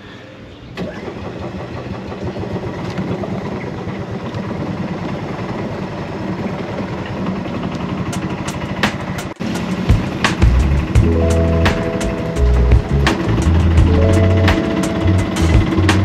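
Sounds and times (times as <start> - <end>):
golf cart engine running: 0.8 - 16.0.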